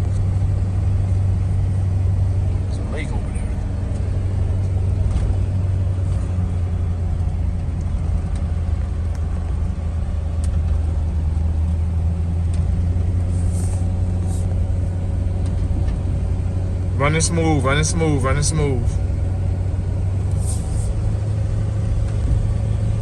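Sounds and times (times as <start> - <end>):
road noise: 0.0 - 23.0
truck engine rumble: 0.0 - 23.0.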